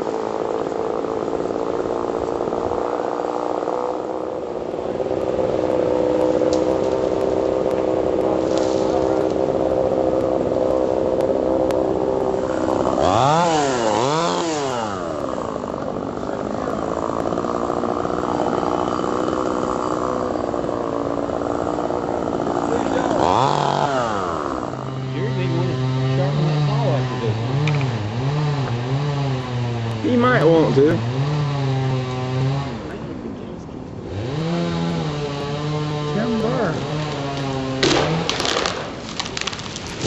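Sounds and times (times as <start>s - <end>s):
chainsaw engine revving: 0.0s - 33.3s, 34.0s - 40.0s.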